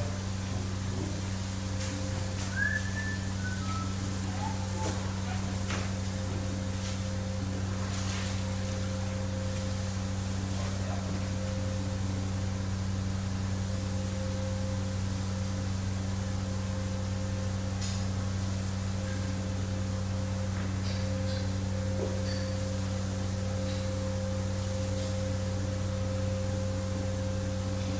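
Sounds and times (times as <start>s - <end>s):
pump humming: 0.0s - 27.9s.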